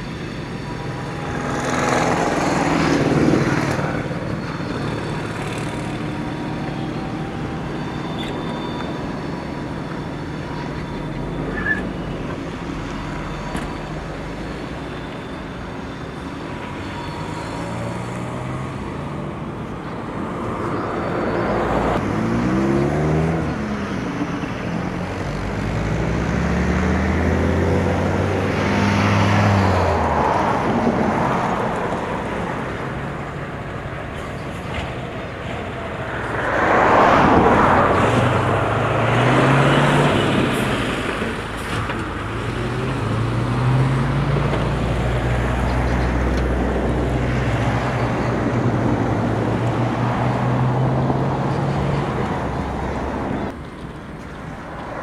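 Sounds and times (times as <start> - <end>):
motor vehicles passing: 0.0 - 55.0.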